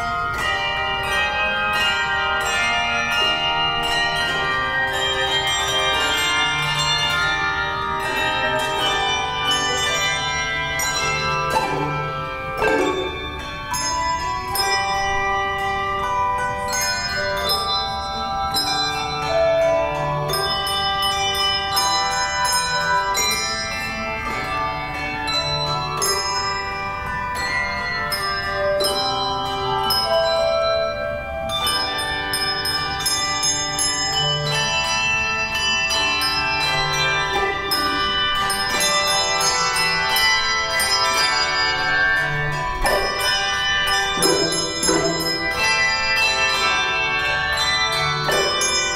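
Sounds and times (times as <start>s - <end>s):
handbell choir playing chords: 0.0s - 48.9s.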